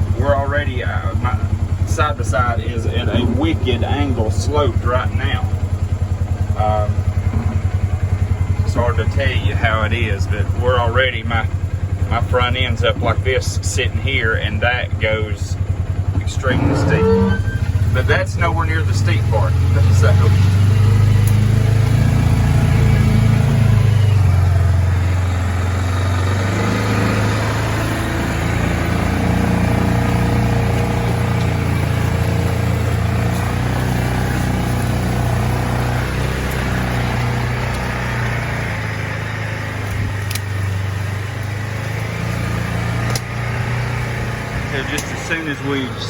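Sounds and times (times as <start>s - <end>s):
utility vehicle engine under load: 0.0s - 46.0s.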